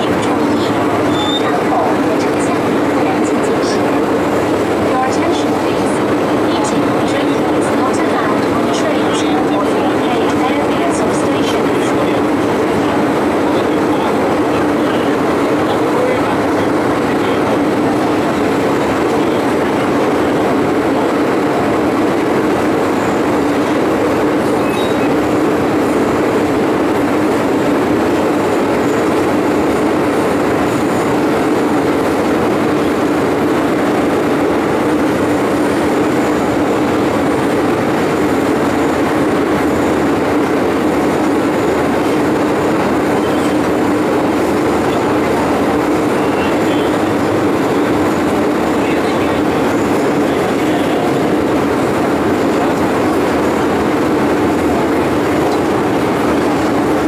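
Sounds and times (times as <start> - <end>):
steady low hum: 0.0 - 57.0
train wheels rumbling on rail: 0.0 - 57.0.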